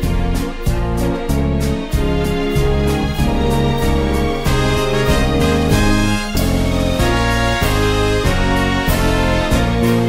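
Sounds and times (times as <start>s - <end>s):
background music with bass line: 0.0s - 10.0s
light ticking beat: 0.0s - 10.0s.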